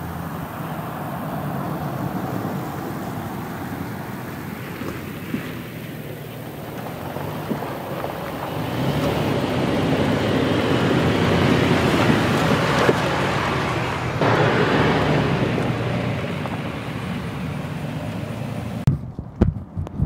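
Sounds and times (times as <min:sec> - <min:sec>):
car engine driving past: 0:00.0 - 0:18.9.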